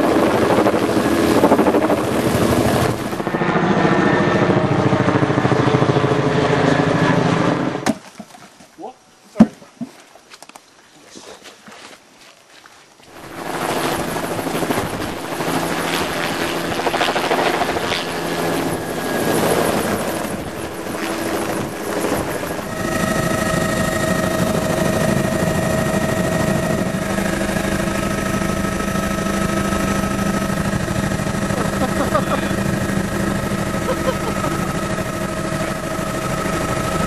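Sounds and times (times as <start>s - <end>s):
helicopter cabin engine drone: 0.0s - 7.8s, 13.1s - 37.0s
helicopter rotor chop: 0.0s - 7.8s, 13.1s - 37.0s.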